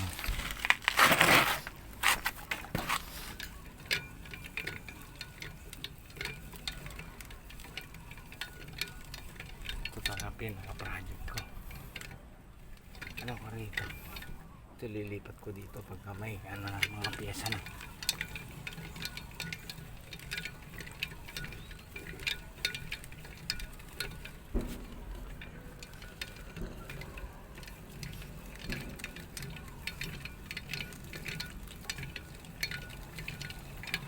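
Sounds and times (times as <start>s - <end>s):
metal parts clicking and clinking: 0.0s - 14.4s, 16.0s - 34.0s.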